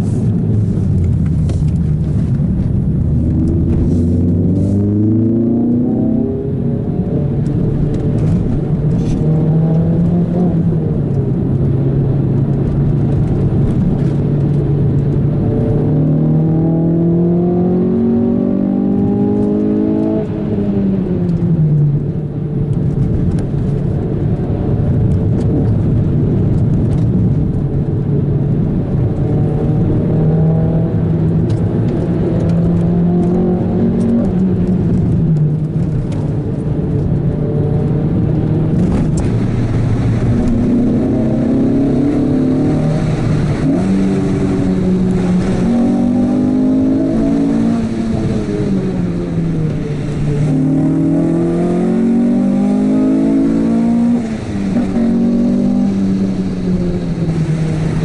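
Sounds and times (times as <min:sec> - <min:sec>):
car engine revving: 0:00.0 - 0:58.0
tyre and road noise: 0:00.0 - 0:58.0.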